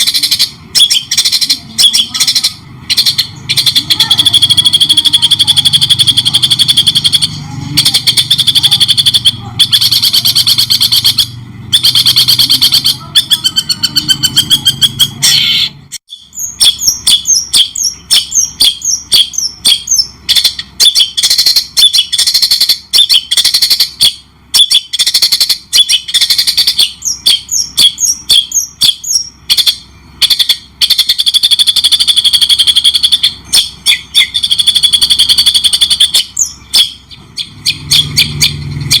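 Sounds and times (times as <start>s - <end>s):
songbird chattering trills: 0.0s - 39.0s.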